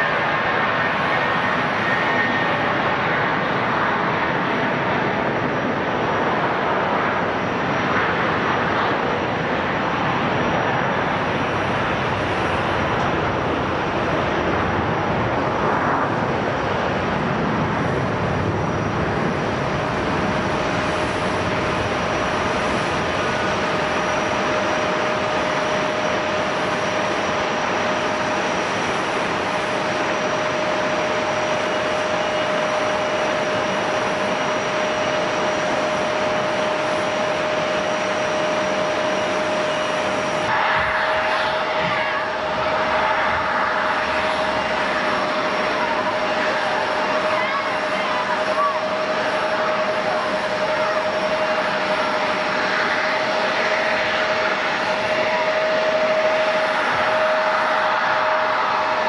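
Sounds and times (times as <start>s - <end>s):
jet engines roaring: 0.0s - 59.0s
steady whine: 0.0s - 59.0s.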